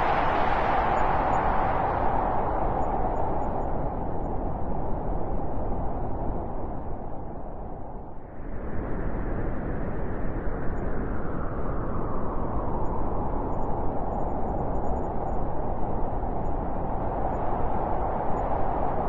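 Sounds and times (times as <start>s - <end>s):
wind blowing hard: 0.0s - 19.0s.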